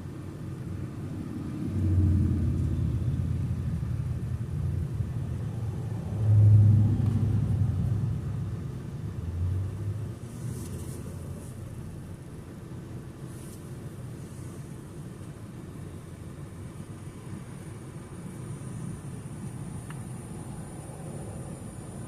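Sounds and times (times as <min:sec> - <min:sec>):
car rumbling on road: 0:00.0 - 0:22.0.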